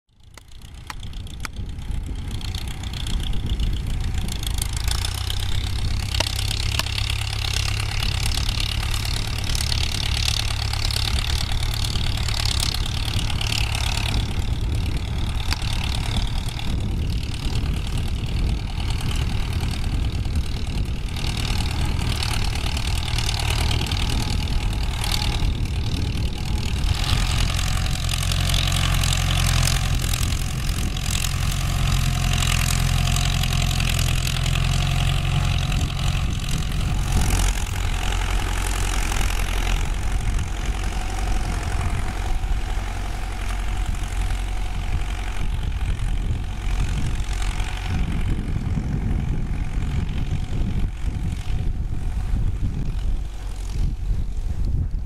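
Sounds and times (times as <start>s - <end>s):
tractor diesel engine under load: 0.1s - 55.0s.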